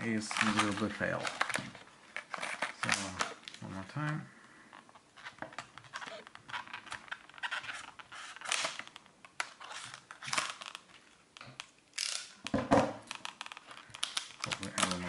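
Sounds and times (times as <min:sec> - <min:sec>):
plastic packaging tearing and crinkling: 0:00.0 - 0:04.2, 0:05.1 - 0:15.0.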